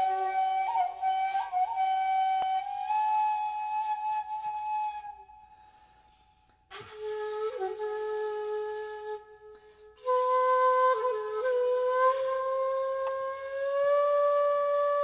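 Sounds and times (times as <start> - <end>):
slow solo flute melody: 0.0 - 5.7, 6.7 - 15.0.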